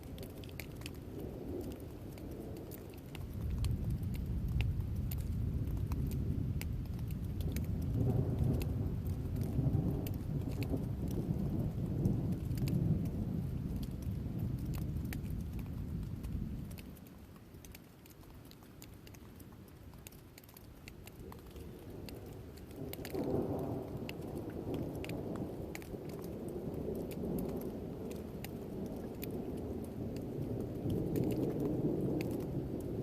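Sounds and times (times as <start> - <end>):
thunder rumbling: 0.0 - 17.0, 21.2 - 33.0
raindrop ticks: 0.0 - 33.0.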